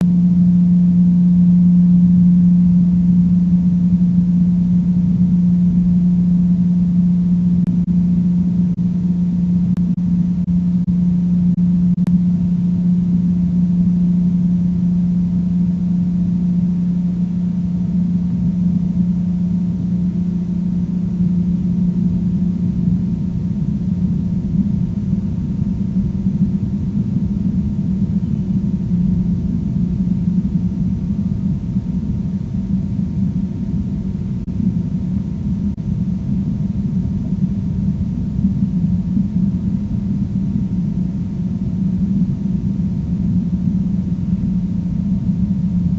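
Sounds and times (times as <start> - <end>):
low rumbling undertone: 0.0 - 45.9
low-pitched hum: 0.0 - 45.9.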